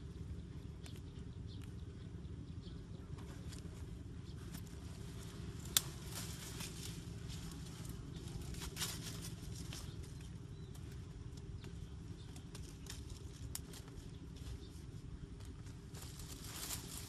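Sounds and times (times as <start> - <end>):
steady low rumble: 0.0 - 17.0
bush leaves and twigs rustling: 3.2 - 17.0.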